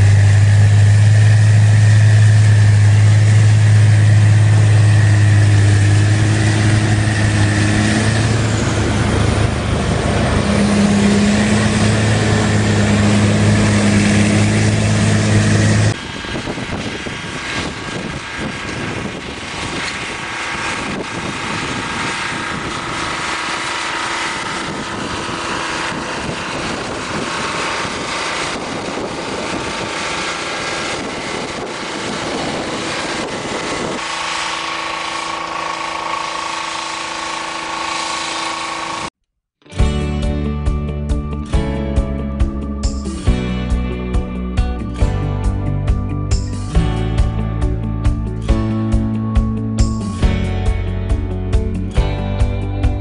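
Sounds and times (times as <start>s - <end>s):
diesel engine droning: 0.0s - 39.1s, 39.7s - 53.0s
snow blower rushing: 0.0s - 39.2s, 39.8s - 53.0s.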